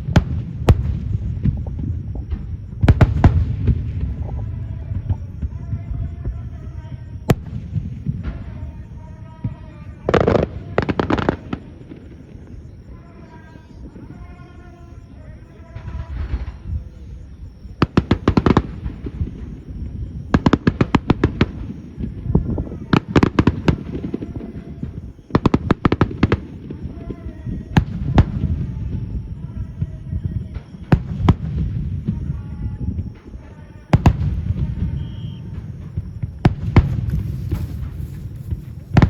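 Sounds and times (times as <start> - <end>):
low rumble of echoing booms: 0.0 - 12.9, 15.7 - 39.0
fireworks crackling bursts: 0.0 - 39.0
fireworks sharp bangs: 0.0 - 39.0.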